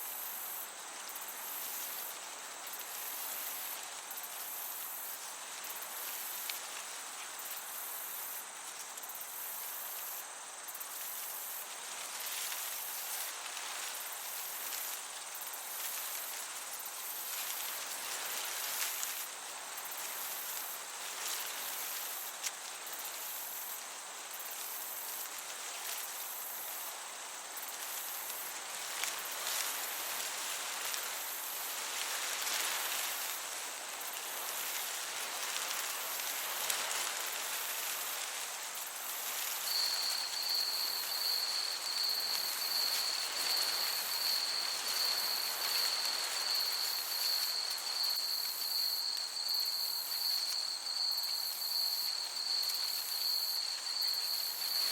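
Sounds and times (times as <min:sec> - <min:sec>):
insects chirping: 0:00.0 - 0:54.9
cricket trilling: 0:00.1 - 0:54.9
breeze hissing: 0:09.3 - 0:54.9.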